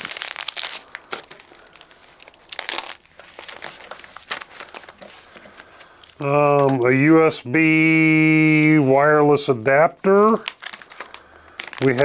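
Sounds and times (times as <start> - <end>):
packing wrap crinkling: 0.0 - 7.3, 8.5 - 12.0.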